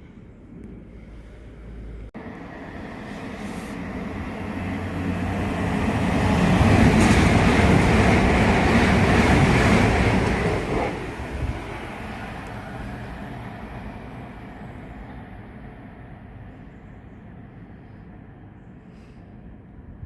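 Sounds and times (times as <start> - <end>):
train passing: 0.1 - 20.0.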